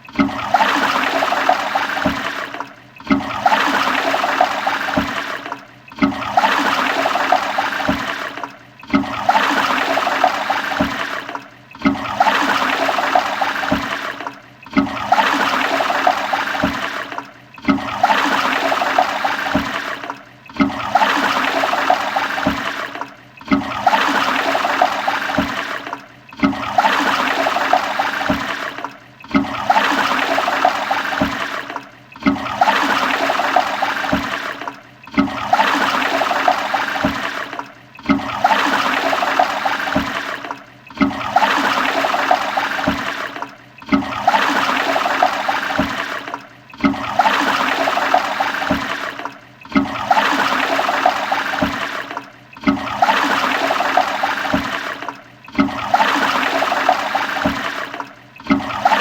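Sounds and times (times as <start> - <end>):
toilet flushing: 0.0 - 59.0.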